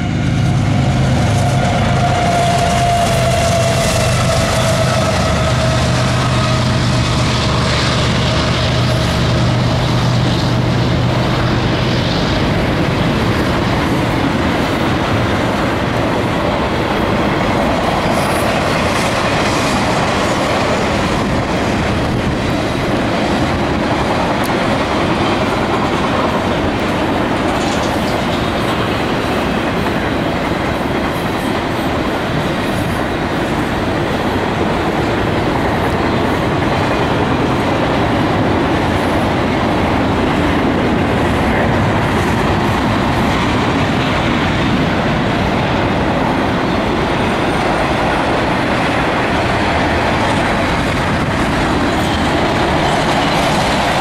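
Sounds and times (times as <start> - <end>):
diesel locomotive engine hum: 0.0 - 54.0
train wheels clickety-clack: 0.0 - 54.0.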